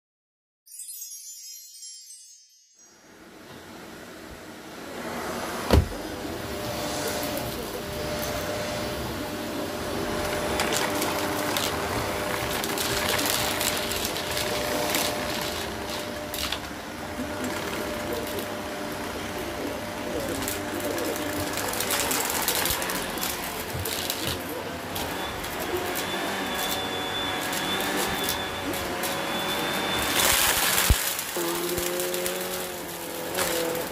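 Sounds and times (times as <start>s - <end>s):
vacuum cleaner motor hum: 3.1s - 33.9s.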